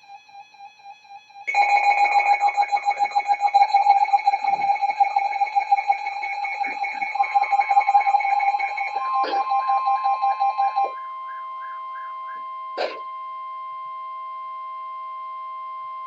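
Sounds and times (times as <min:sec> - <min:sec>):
fast-pulsing warbling alarm tone: 0:00.0 - 0:13.1
steady high alarm tone: 0:00.0 - 0:16.0.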